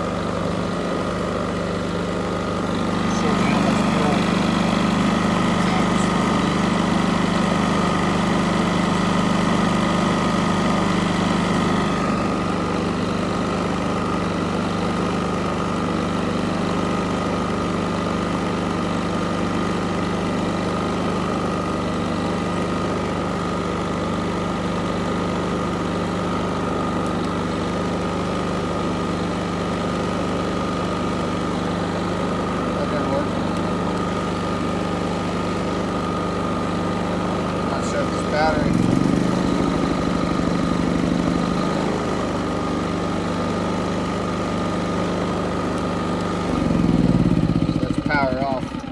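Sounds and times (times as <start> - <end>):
generator engine idling: 0.0 - 48.9.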